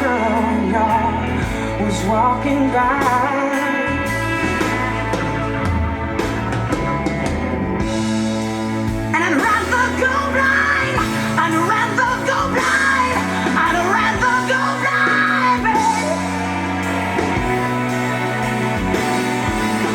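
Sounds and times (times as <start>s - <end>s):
high bending melodic line: 0.0s - 19.9s
song with held bass notes: 0.0s - 19.9s.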